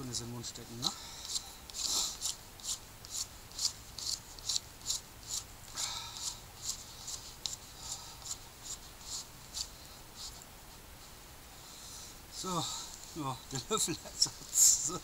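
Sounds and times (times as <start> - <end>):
knife scraping a stick: 0.6 - 15.0.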